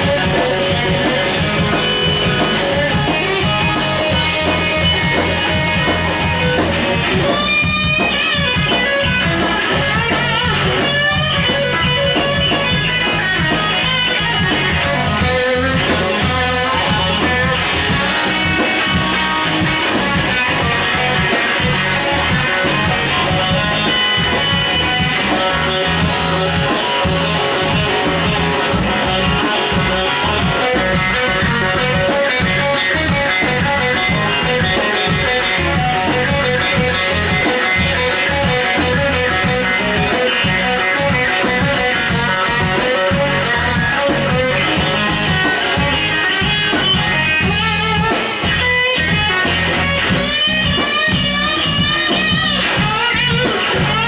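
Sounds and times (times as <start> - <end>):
blues rock band playing: 0.0 - 54.0
electric guitar bending notes: 0.0 - 54.0.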